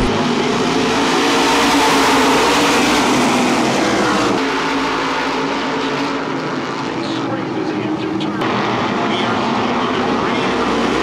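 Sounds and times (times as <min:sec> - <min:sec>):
race car engines roaring: 0:00.0 - 0:11.0.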